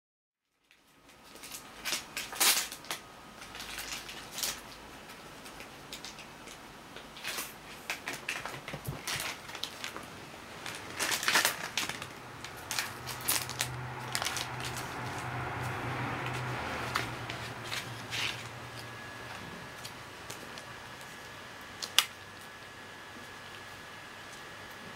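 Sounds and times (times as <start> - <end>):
packaging crinkling and rustling: 0.6 - 15.3, 16.2 - 23.7
low steady hum: 0.8 - 24.9.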